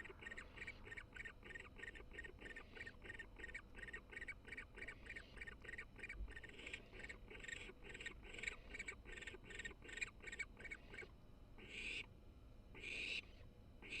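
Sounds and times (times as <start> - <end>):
owl chick raspy calls: 0.0 - 12.1, 12.7 - 14.0.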